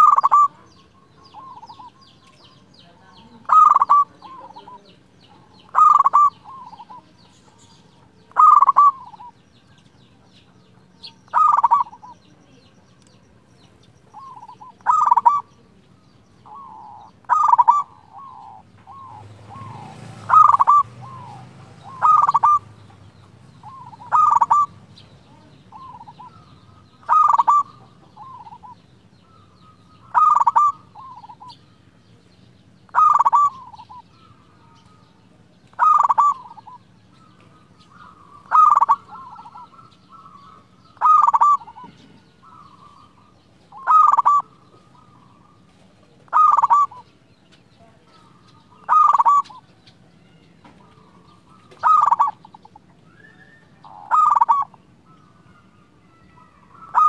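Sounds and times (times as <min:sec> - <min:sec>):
dove cooing: 0:00.0 - 0:32.0, 0:32.9 - 0:57.0.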